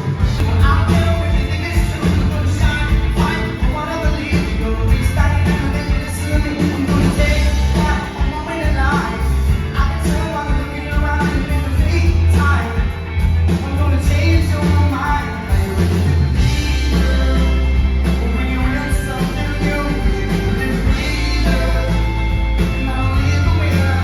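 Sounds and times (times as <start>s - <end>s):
heavy bass line: 0.0s - 24.0s
live rock band playing: 0.0s - 24.0s
person singing: 0.0s - 24.0s.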